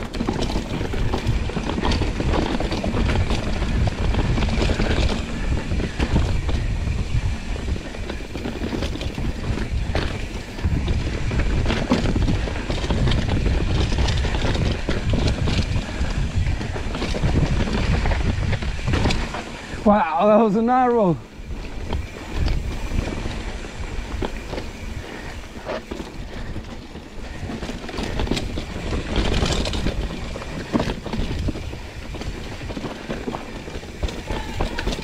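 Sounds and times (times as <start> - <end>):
bike knocks and rattles: 0.0 - 19.8, 21.3 - 35.0
tyres rumbling on rough trail: 0.0 - 35.0
wind on microphone: 0.0 - 35.0.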